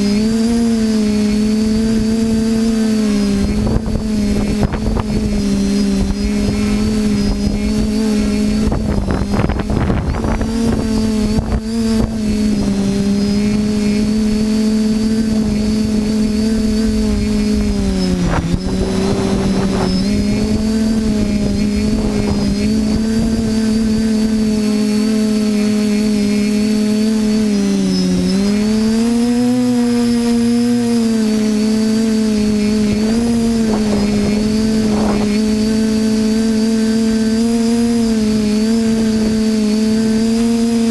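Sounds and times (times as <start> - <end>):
quadcopter propellers droning: 0.0 - 40.9
rough crackly noise: 0.0 - 40.9.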